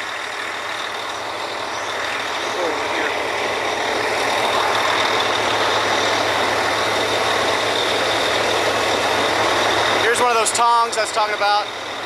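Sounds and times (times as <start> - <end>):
drilling rig machinery running: 0.0 - 12.0.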